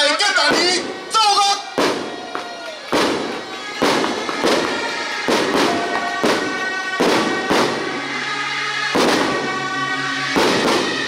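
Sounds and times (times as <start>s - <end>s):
firecrackers banging: 0.0s - 11.0s
temple band music: 0.0s - 11.0s.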